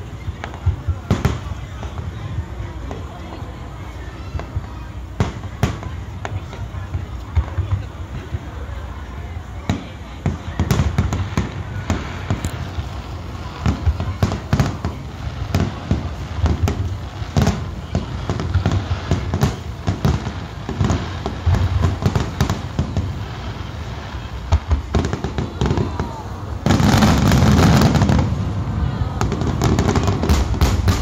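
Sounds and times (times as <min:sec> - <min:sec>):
fireworks bangs and booms: 0:00.0 - 0:31.0.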